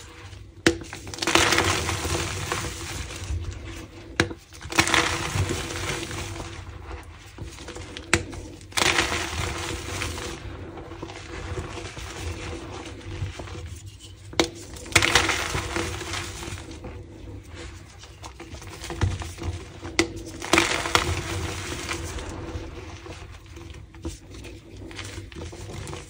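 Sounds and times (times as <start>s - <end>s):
chalk crunching and crumbling: 0.0s - 26.0s.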